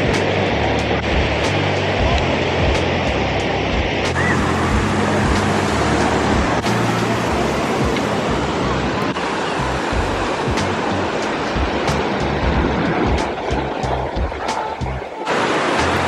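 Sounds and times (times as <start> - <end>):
wind buffeting microphone: 0.0 - 15.1
ocean surf washing: 0.0 - 16.0.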